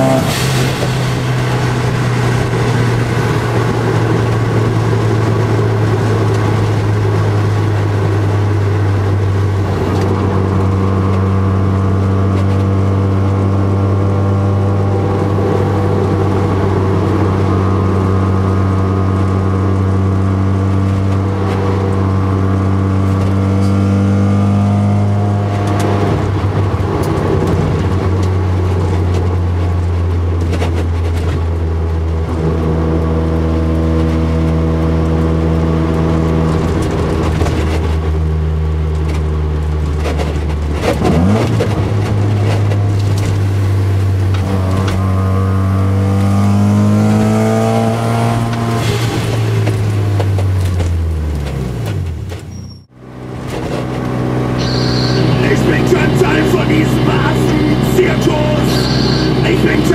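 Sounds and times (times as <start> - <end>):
car engine cruising: 0.0 - 59.9
road and wind noise: 0.0 - 59.9.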